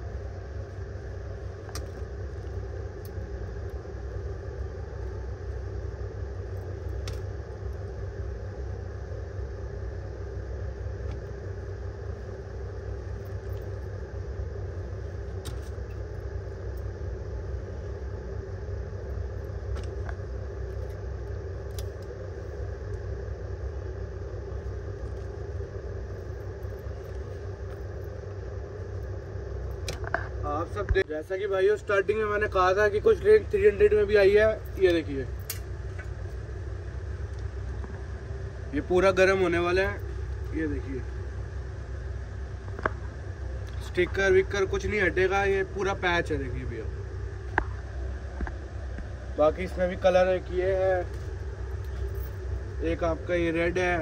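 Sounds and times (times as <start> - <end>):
low background rumble: 0.0 - 54.0.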